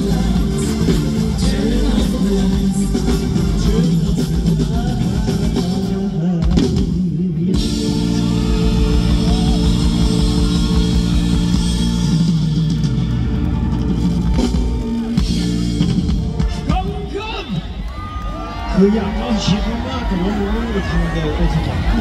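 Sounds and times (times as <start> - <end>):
live rock band: 0.0 - 22.0.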